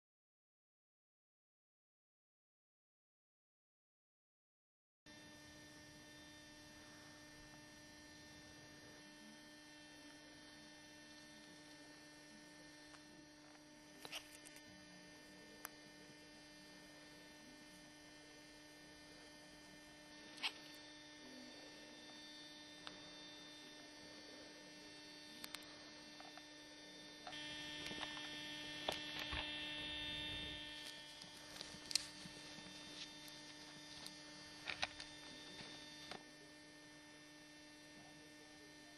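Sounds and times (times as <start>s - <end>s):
low electrical hum: 5.1s - 38.9s.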